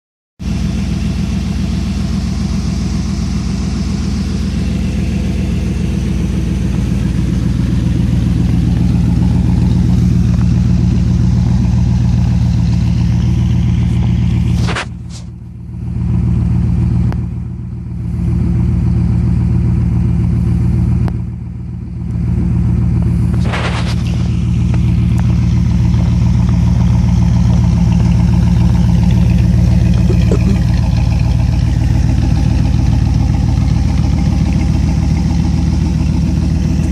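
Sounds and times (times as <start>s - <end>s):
car engine running: 0.4s - 36.9s.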